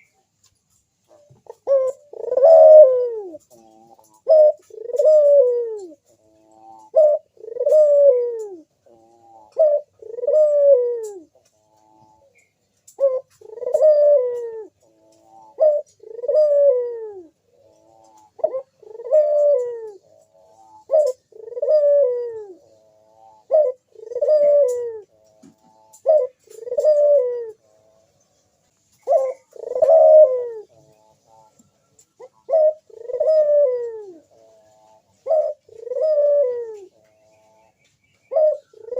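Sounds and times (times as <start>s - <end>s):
dove cooing: 1.1s - 28.2s, 28.9s - 38.9s.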